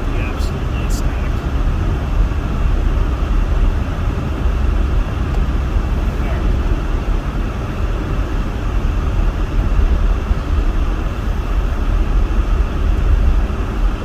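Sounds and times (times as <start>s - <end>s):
road and engine noise inside van: 0.0s - 14.0s.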